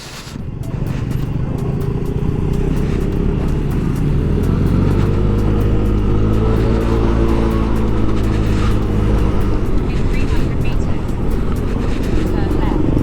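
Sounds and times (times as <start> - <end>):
scooter engine running: 0.4 - 13.0.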